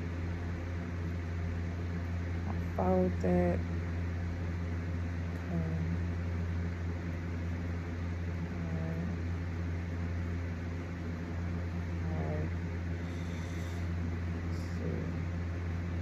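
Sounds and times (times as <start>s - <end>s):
low hum with hiss: 0.0s - 16.0s.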